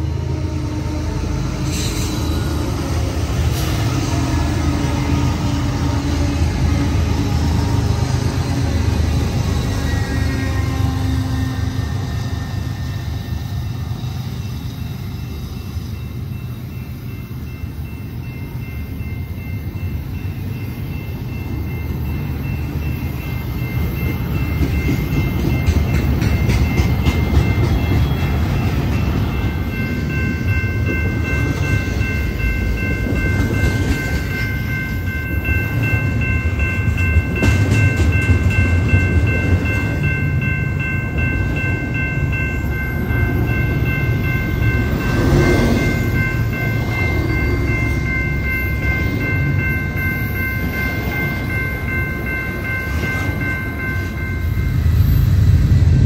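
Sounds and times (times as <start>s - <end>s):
freight train rumble: 0.0s - 56.0s.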